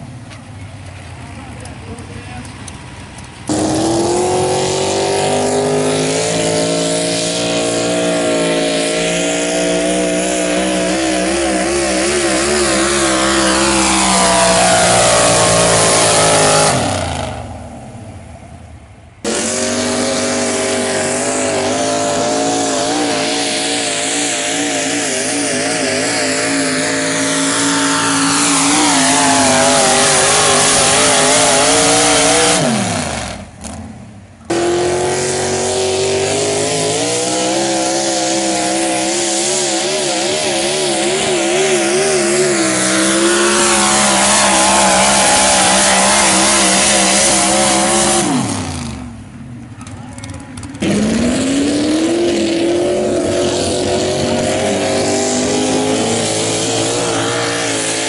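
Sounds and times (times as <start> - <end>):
truck engine revving at full throttle: 0.0 - 58.0.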